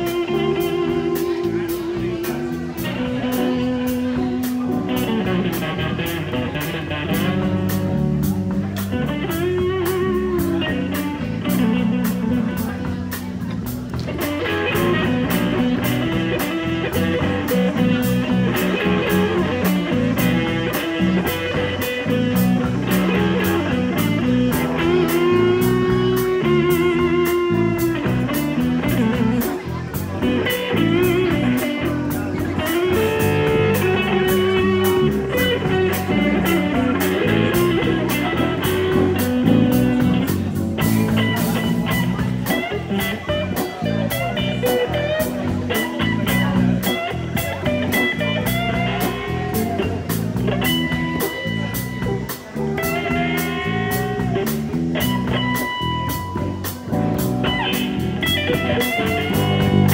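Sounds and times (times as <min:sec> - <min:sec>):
blues band playing: 0:00.0 - 0:59.9
electric guitar lead: 0:00.0 - 0:59.9.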